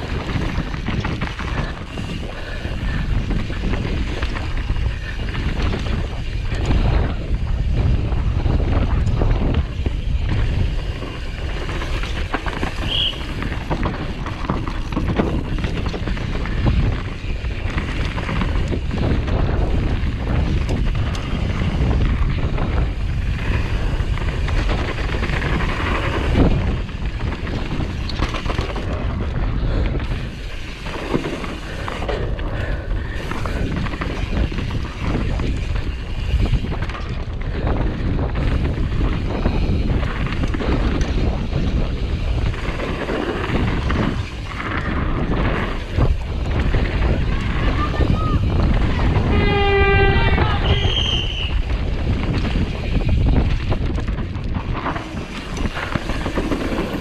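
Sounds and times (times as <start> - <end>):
bike rattling and knocking: 0.0 - 57.0
wind buffeting microphone: 0.0 - 57.0.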